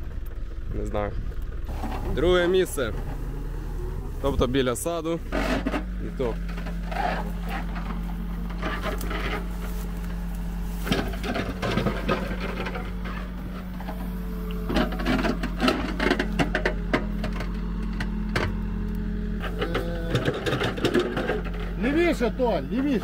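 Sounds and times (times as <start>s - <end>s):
excavator engine running: 0.0s - 23.0s
bucket scraping and clunking soil: 1.7s - 23.0s.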